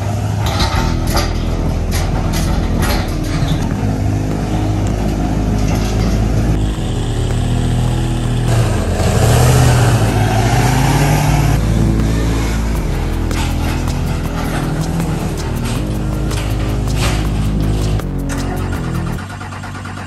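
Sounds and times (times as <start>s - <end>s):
diesel engine under heavy load: 0.0s - 20.0s.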